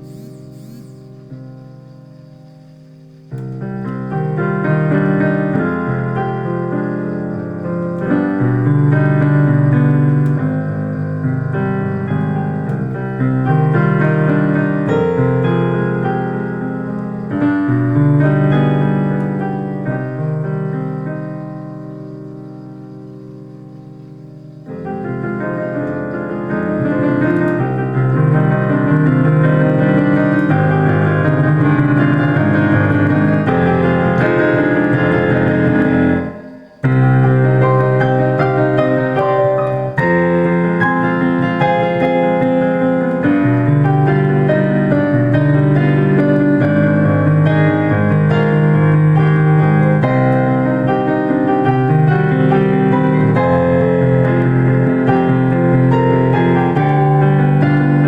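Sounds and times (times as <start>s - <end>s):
solo piano melody: 0.0s - 58.0s.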